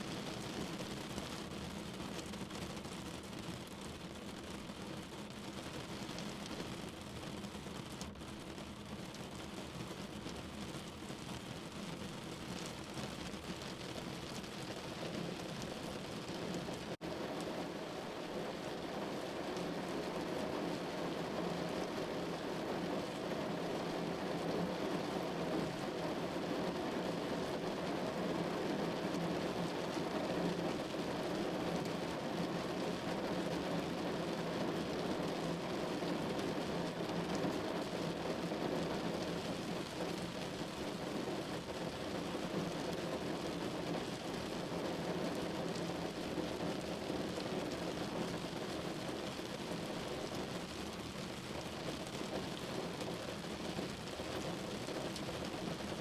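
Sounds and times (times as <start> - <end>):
rain on window glass: 0.0 - 56.0.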